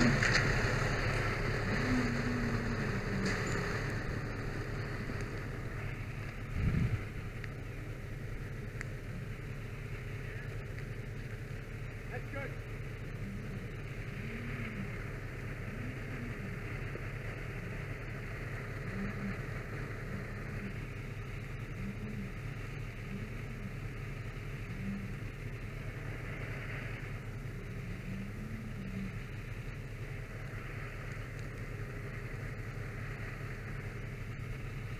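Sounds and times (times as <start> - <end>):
fire engine running: 0.0 - 34.9.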